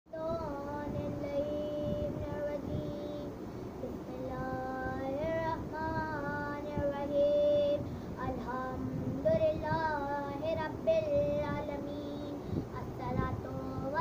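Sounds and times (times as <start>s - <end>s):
boy singing devotional verses: 0.1s - 14.0s.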